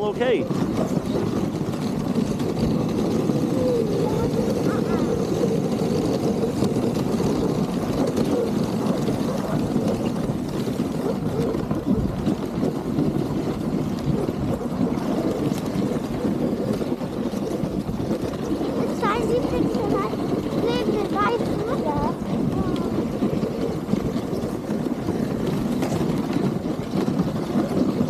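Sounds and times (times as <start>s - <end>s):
sled runners scraping on snow: 0.0s - 28.0s.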